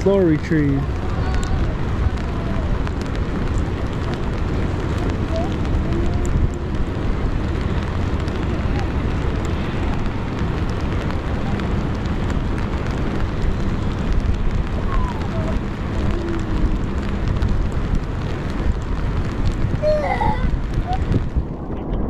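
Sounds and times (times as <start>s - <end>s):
raindrops ticking on camera: 0.0s - 22.0s
steady rain falling: 0.0s - 22.0s
wind noise on microphone: 0.0s - 22.0s.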